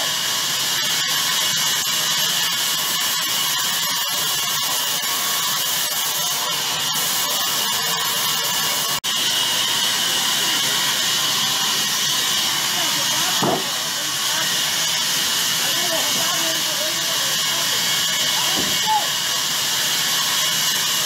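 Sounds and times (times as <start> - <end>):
band saw cutting log: 0.0 - 21.0.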